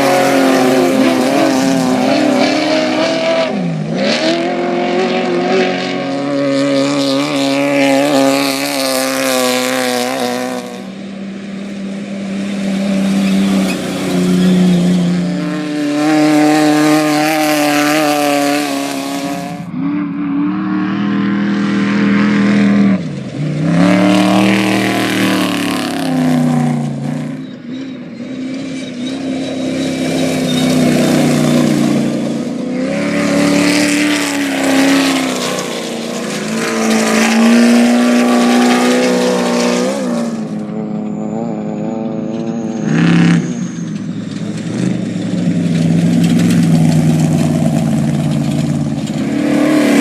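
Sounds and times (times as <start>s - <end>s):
race vehicle engines revving: 0.0s - 50.0s.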